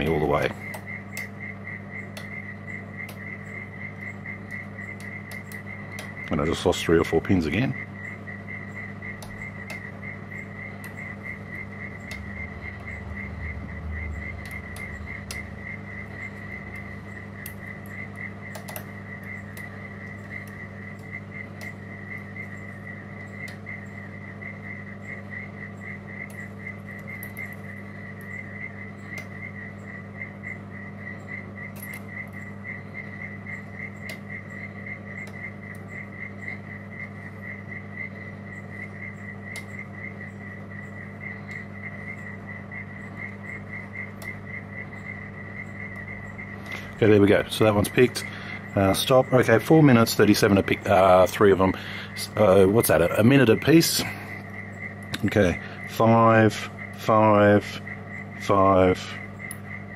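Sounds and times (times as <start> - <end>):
low steady hum: 0.0 - 59.9
pulsing high chirp: 0.0 - 59.9.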